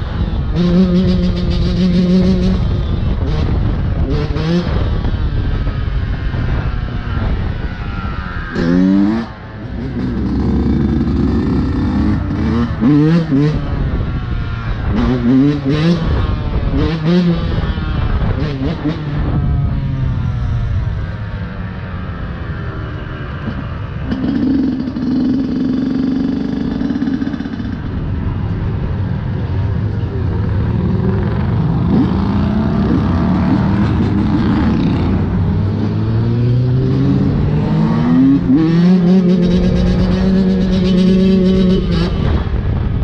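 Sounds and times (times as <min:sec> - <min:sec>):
motorcycle engine revving: 0:00.0 - 0:28.4, 0:30.0 - 0:43.0.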